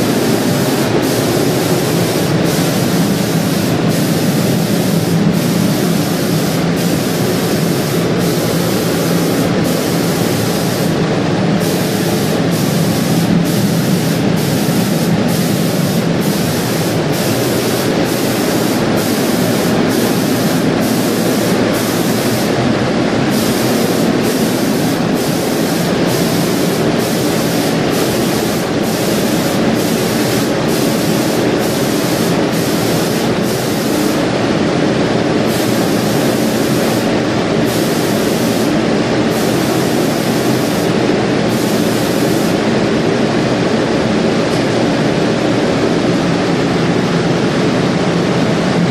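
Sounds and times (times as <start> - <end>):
machine hissing and humming: 0.0 - 48.9.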